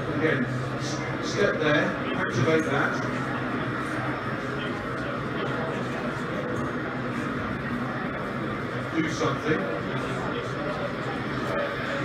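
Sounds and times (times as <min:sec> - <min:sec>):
murmur of distant voices: 0:00.0 - 0:12.0.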